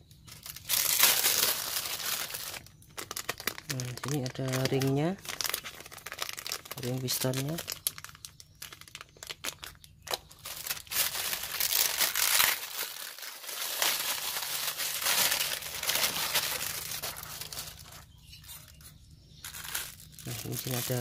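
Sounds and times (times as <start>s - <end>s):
plastic bag crinkling: 0.2s - 21.0s.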